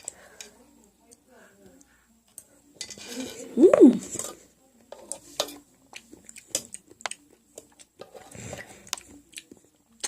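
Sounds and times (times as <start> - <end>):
soft chewing: 0.0 - 10.0.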